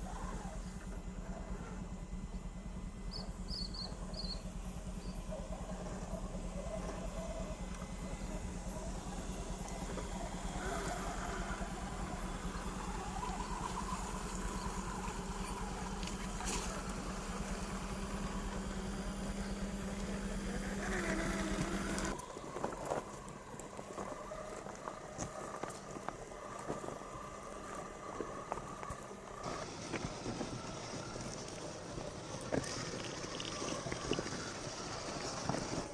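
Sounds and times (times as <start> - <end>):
electric motor drone: 2.9 - 35.9.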